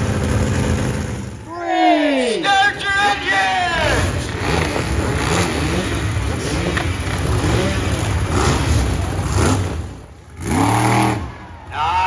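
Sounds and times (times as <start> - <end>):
monster truck engine revving: 0.0 - 11.7.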